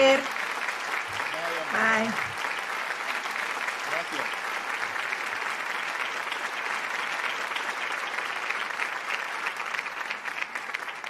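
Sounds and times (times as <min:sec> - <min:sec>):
crowd applause: 0:00.0 - 0:11.0.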